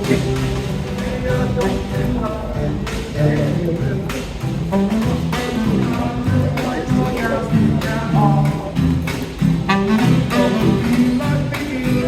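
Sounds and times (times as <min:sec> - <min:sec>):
live band music: 0:00.0 - 0:12.0
voices: 0:00.0 - 0:12.0
walking double bass: 0:00.0 - 0:12.0.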